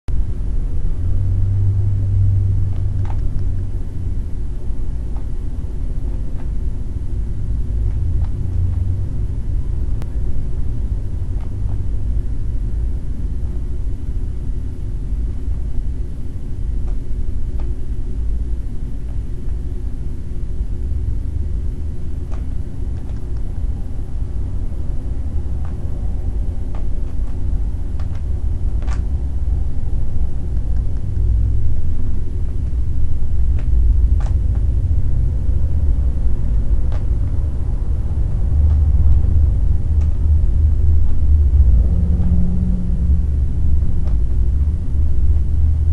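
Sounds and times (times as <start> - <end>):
low rumble: 0.1 - 45.9.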